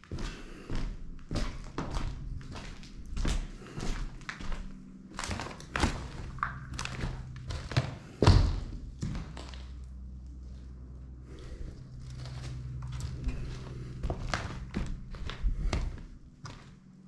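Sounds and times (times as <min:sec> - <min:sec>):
thumps and knocks in a room: 0:00.0 - 0:10.2, 0:11.3 - 0:17.0
low steady hum: 0:00.0 - 0:17.0.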